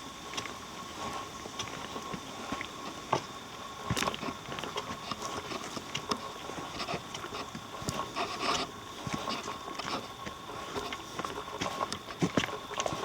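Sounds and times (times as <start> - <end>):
footsteps on a forest trail: 0.3 - 13.0.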